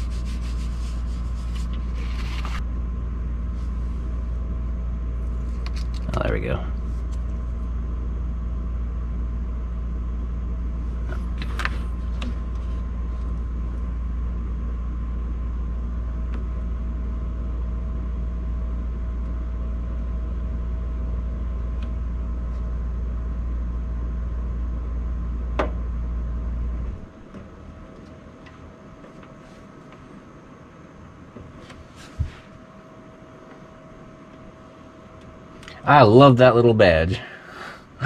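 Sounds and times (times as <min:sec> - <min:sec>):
low machine rumble: 0:00.0 - 0:38.0.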